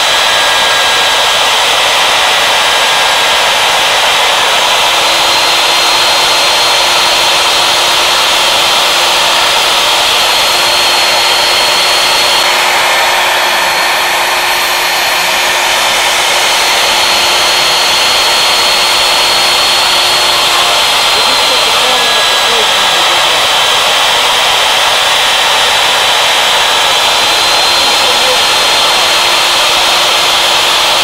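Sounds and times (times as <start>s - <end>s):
end mill cutting wood: 0.0s - 31.0s
router spindle whining: 0.0s - 31.0s.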